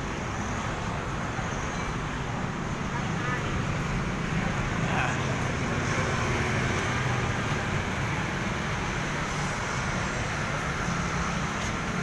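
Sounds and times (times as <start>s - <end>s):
passing vehicles rumble: 0.0s - 12.0s.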